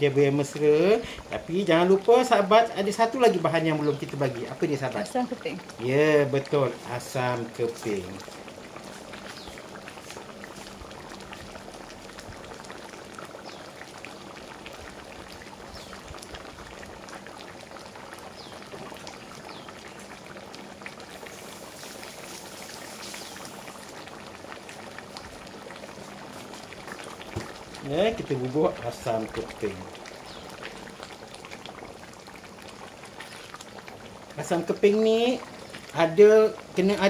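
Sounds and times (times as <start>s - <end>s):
curry bubbling and popping: 0.0s - 37.0s.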